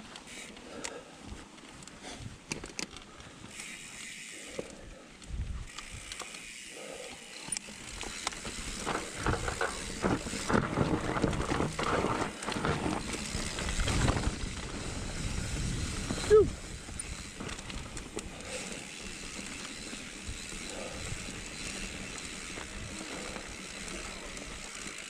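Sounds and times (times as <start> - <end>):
bicycle freewheel clicking and rattling: 0.0 - 0.9, 3.4 - 4.8, 5.5 - 25.0.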